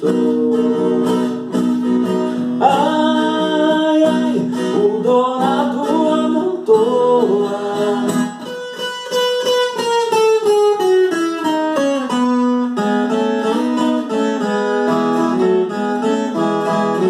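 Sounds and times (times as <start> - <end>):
plucked guitar melody: 0.0 - 17.0.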